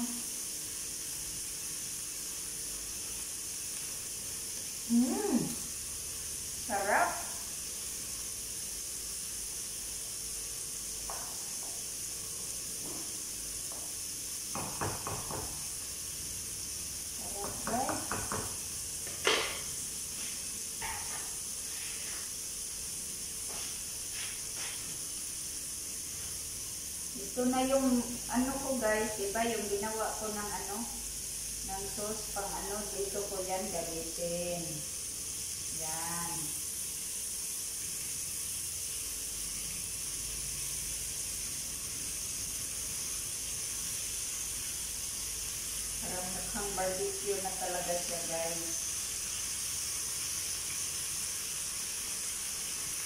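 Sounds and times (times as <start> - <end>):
meat sizzling in a grill pan: 0.0 - 53.0.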